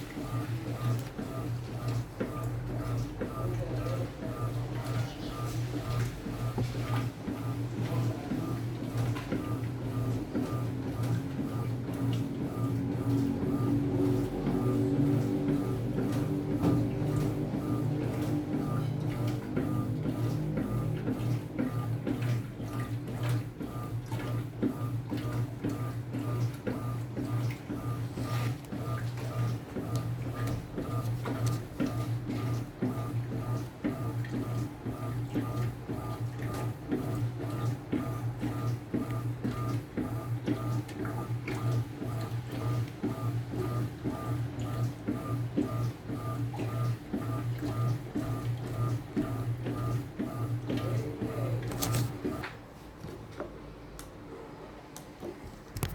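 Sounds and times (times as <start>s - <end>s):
washing machine knocking and clicking: 0.0s - 53.6s
washing machine motor hum: 0.0s - 55.9s.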